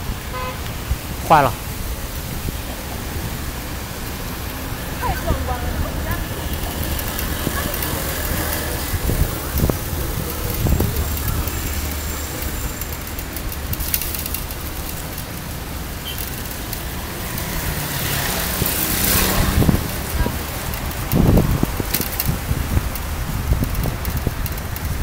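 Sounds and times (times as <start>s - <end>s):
wind on microphone: 0.0s - 13.9s, 17.4s - 25.0s
tyres on wet asphalt: 0.0s - 25.0s.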